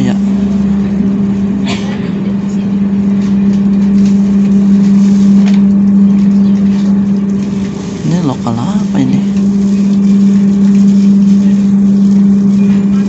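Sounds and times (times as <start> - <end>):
diesel train engine hum: 0.0 - 13.0.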